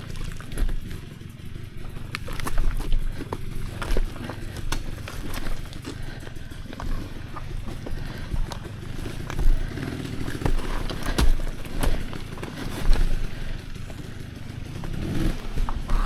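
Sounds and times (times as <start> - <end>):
bike knocking and clattering: 0.0 - 16.0
dirt bike engine at low revs: 0.0 - 16.0.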